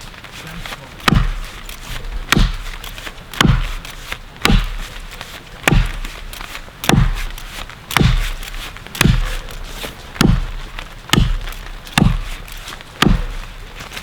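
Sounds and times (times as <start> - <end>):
axe chopping tree: 1.0 - 14.0.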